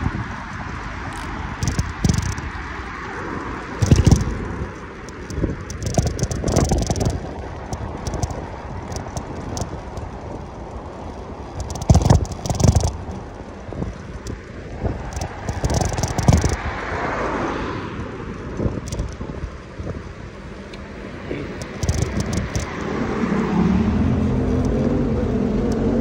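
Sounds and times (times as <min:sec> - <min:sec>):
bike rattles and clicks: 0:00.0 - 0:26.0
road and traffic noise: 0:00.0 - 0:26.0
wind rumbling on microphone: 0:00.0 - 0:26.0.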